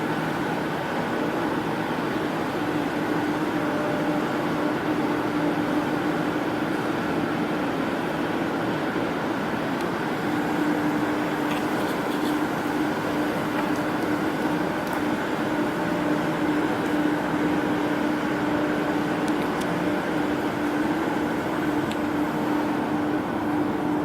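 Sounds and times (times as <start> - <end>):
diesel generator running: 0.0 - 24.0.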